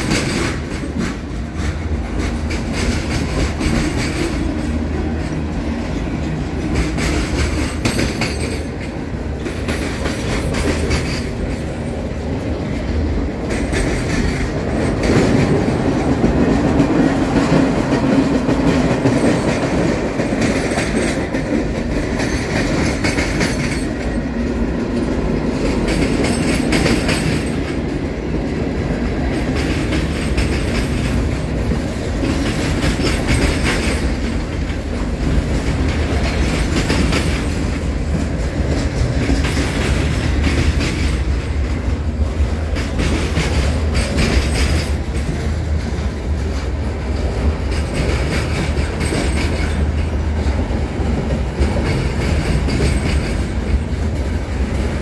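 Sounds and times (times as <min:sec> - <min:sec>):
freight train rolling past: 0:00.0 - 0:55.0
wheels clacking over rail joints: 0:00.0 - 0:55.0.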